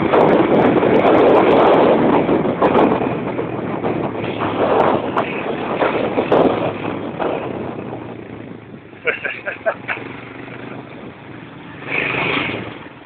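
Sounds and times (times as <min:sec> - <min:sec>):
vehicle engine: 0:00.0 - 0:13.0
wind noise on microphone: 0:00.0 - 0:13.0.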